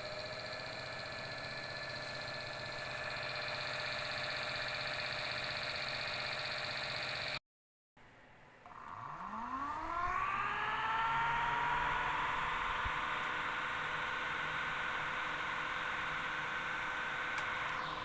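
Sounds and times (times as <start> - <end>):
radiator fan motor whine: 0.0 - 7.4, 8.7 - 18.0.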